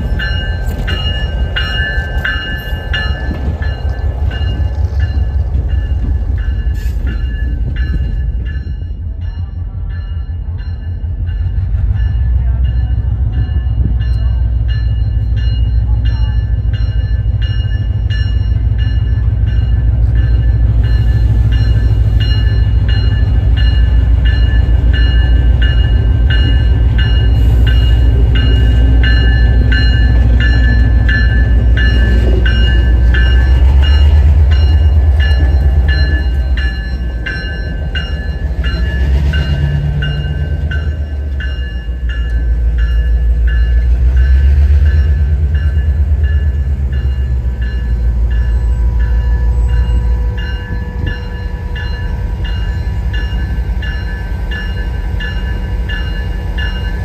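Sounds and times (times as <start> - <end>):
diesel locomotive engine rumbling: 0.0 - 57.0
locomotive bell ringing: 0.0 - 57.0
train coaches rolling: 0.0 - 57.0.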